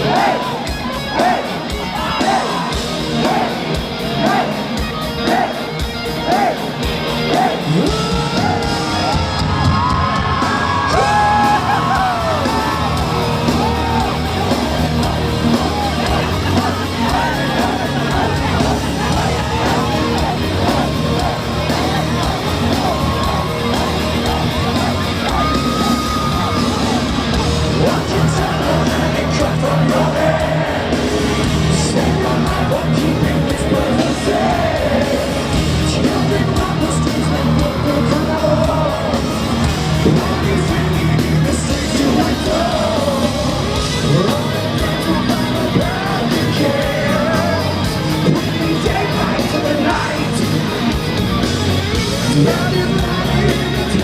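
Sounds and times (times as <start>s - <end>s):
crowd yelling and singing along: 0.0s - 54.0s
heavy metal band playing live: 0.0s - 54.0s.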